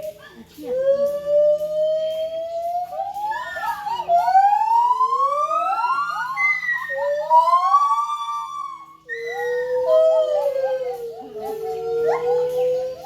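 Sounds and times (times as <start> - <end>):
animals whooping: 0.7 - 13.0.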